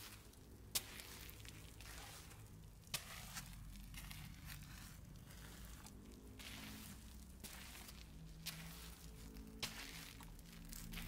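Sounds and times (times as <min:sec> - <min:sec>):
gritty footsteps on stone: 0:00.0 - 0:11.0
scuffing and grinding of grit: 0:00.0 - 0:11.0.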